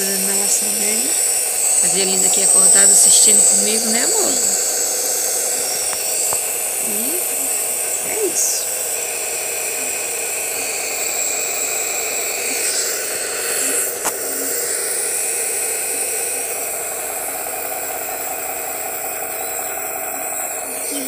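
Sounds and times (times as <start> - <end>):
air hissing through tube: 0.0 - 21.0
nebulizer motor hum: 0.0 - 21.0.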